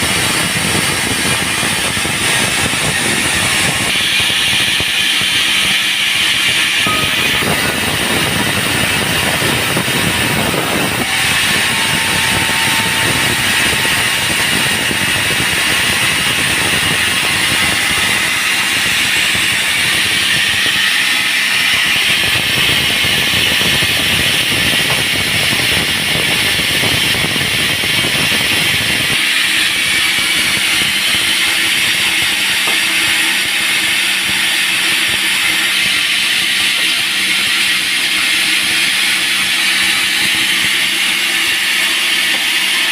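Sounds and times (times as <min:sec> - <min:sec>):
band sawmill cutting log: 0:00.0 - 0:42.9.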